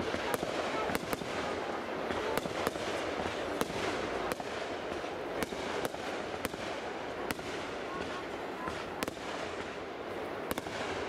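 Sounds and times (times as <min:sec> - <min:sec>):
continuous hiss: 0:00.0 - 0:11.0
fireworks bangs: 0:00.0 - 0:11.0.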